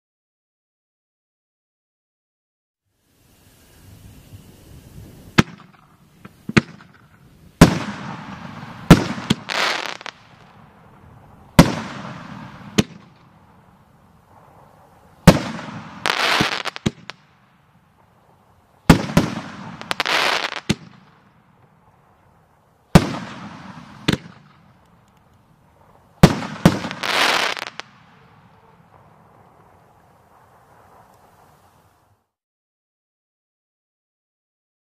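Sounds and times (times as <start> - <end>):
firework crackling and hissing: 2.9 - 32.4
firework bangs: 3.6 - 32.3.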